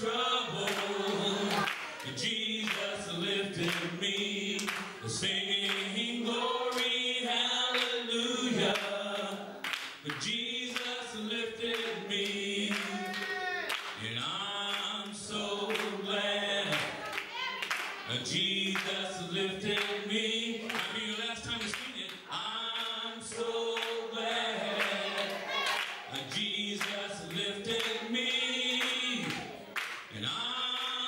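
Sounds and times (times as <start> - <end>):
choir and congregation singing: 0.0 - 31.0.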